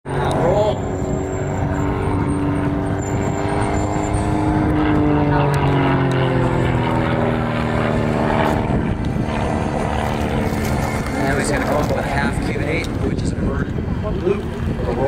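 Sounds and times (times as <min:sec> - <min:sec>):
propeller plane droning: 0:00.0 - 0:15.0.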